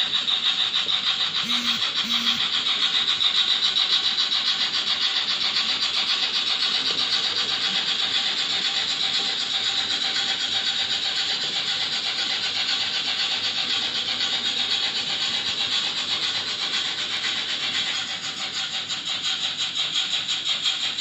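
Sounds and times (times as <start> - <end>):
model steam train hissing: 0.0 - 21.0.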